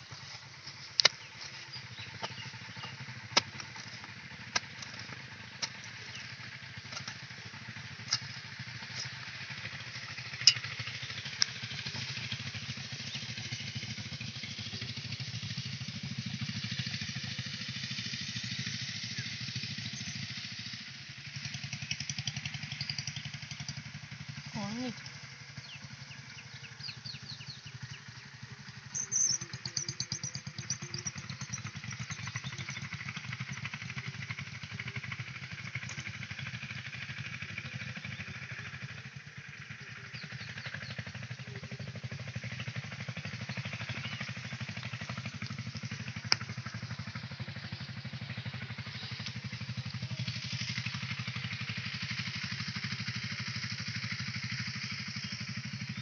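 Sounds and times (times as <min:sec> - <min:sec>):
low pulsing engine-like drone: 0:00.0 - 0:56.0.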